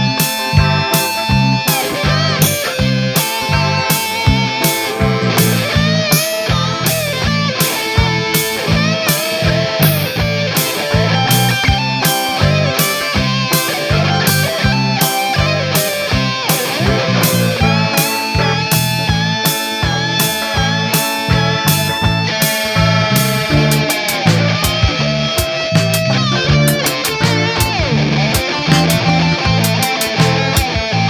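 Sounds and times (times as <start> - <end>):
electric guitar: 0.0 - 31.0
instrumental rock music: 0.0 - 31.0
steady drum beat: 0.0 - 31.0.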